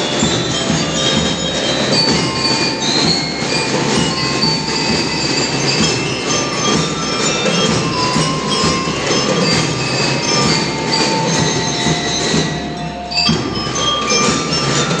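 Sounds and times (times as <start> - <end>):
bell lyres ringing: 0.0 - 15.0
dense steady drumming: 0.0 - 15.0.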